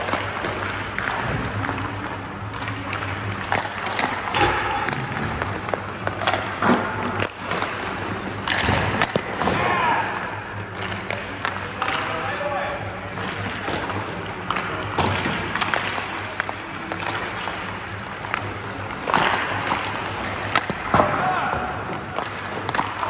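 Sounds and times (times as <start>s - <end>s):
pucks striking goalie pads: 0.0s - 12.4s, 13.1s - 23.0s
steady background hum: 0.0s - 23.0s.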